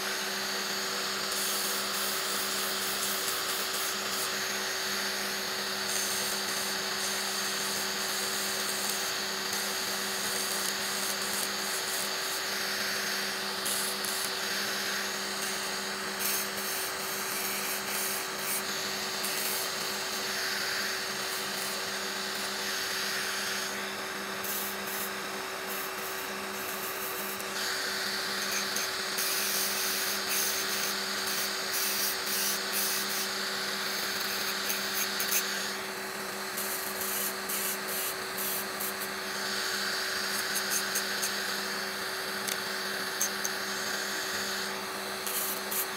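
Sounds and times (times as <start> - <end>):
electric nail drill grinding: 0.0 - 45.9.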